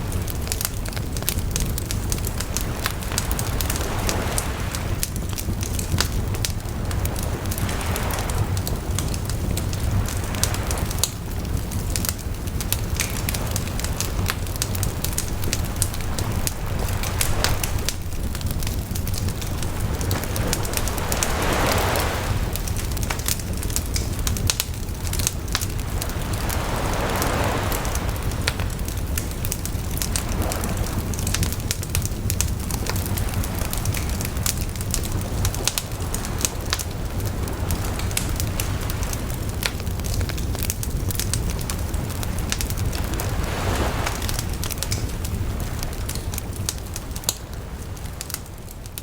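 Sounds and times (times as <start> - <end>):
sea waves washing ashore: 0.0 - 49.0
wood fire crackling and popping: 0.0 - 49.0.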